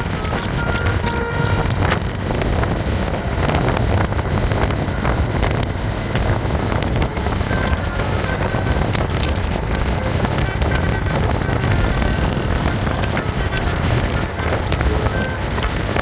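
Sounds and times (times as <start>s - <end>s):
road traffic rumble: 0.0s - 16.0s
wind buffeting microphone: 0.0s - 16.0s.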